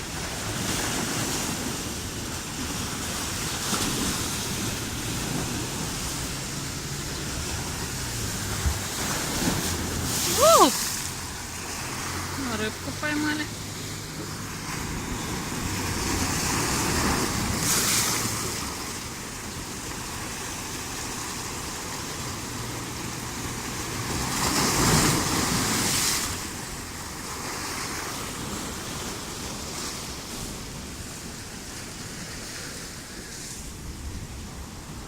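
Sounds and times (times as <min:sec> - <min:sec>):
sea waves washing in: 0:00.0 - 0:35.0.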